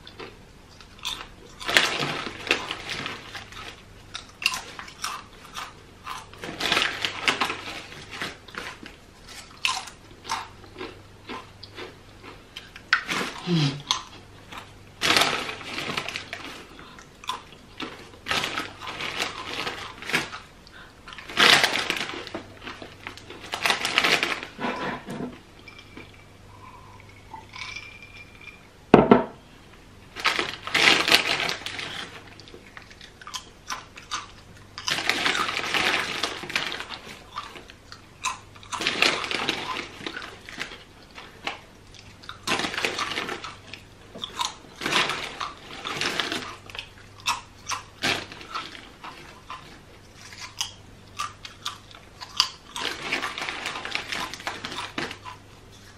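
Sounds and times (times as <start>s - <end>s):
chips crunching being chewed: 0.0s - 24.6s, 30.2s - 55.9s
plastic snack bag crinkling: 0.9s - 24.6s, 30.1s - 55.9s.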